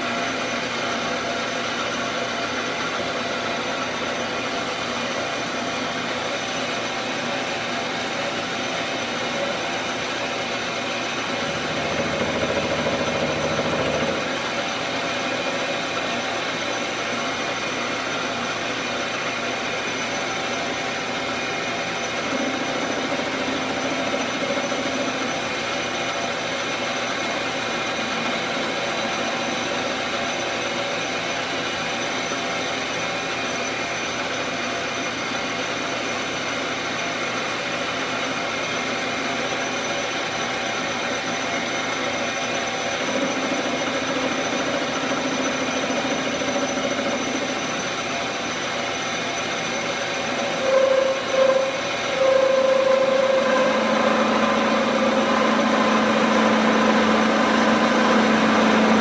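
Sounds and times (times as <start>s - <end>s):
metal lathe whining: 0.0s - 59.0s
higher machine whine: 1.8s - 31.2s, 38.8s - 59.0s.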